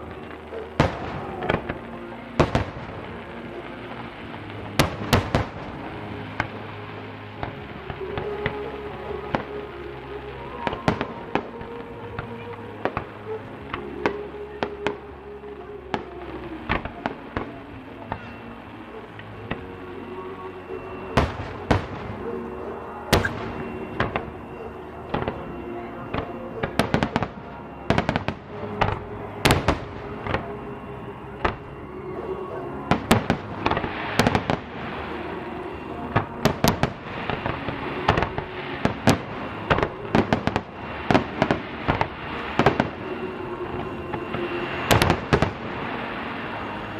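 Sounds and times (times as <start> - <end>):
fireworks bursting: 0.0 - 46.9
music playing: 0.0 - 46.9.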